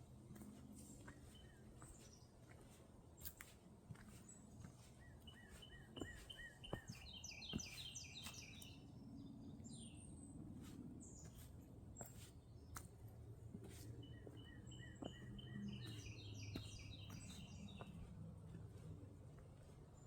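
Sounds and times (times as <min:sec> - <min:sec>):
faint songbirds singing: 0:00.0 - 0:20.0.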